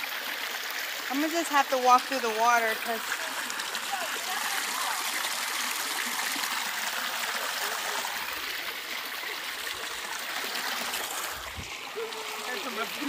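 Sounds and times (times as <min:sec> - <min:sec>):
waterfall and creek rushing: 0:00.0 - 0:13.0.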